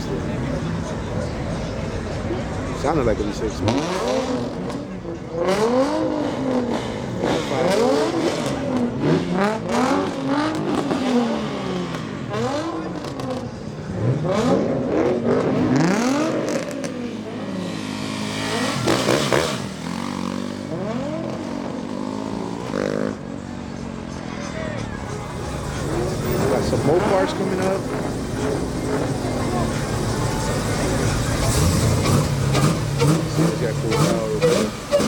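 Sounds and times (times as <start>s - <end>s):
car engines revving hard: 0.0s - 35.0s.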